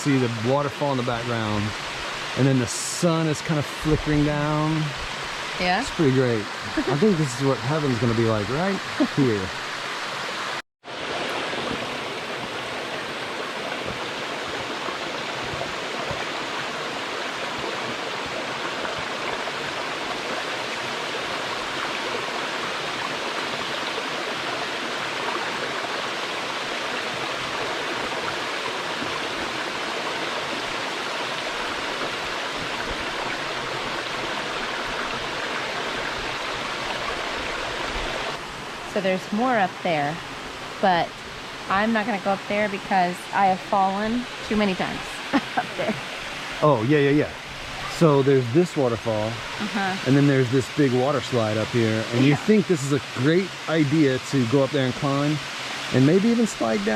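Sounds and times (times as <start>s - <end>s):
waterfall roaring: 0.0s - 56.9s.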